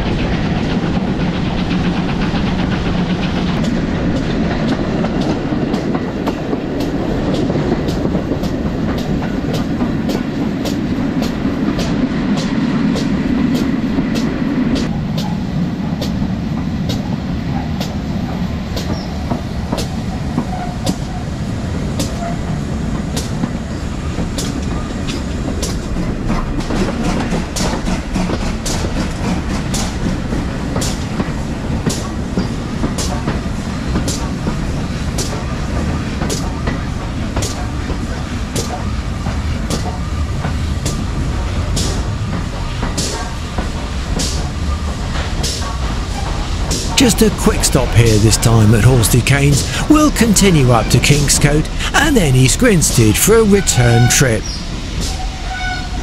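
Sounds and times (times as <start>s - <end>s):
steam locomotive rumble: 0.0s - 56.0s.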